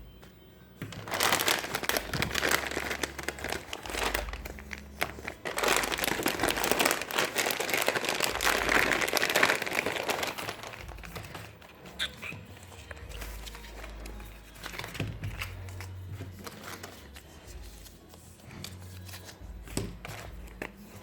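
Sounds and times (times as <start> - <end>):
plastic packaging crinkling: 0.8 - 20.8.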